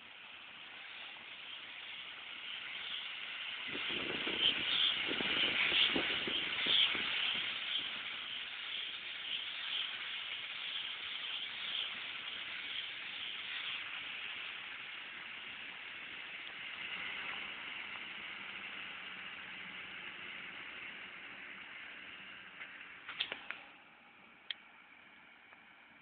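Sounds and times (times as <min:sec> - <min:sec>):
rotary rake hissing through grass: 0:00.0 - 0:23.0.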